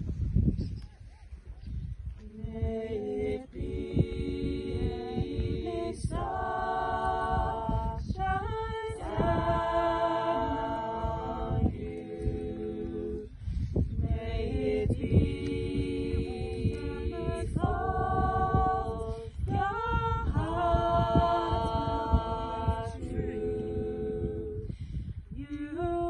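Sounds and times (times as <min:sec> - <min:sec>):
wind rumble on microphone: 0:00.0 - 0:26.0
choir singing a cappella: 0:02.3 - 0:26.0.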